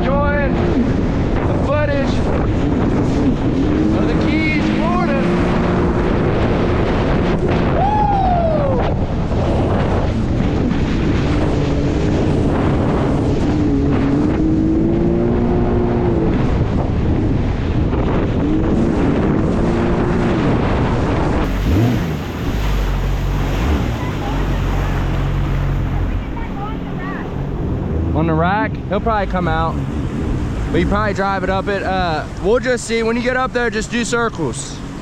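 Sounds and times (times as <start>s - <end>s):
jet ski engine running: 0.0s - 35.0s
water rushing past: 0.0s - 35.0s
wind noise on microphone: 0.0s - 35.0s.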